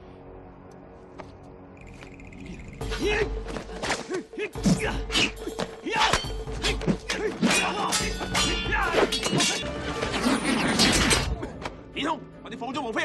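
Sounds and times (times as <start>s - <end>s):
film music score: 0.0s - 13.0s.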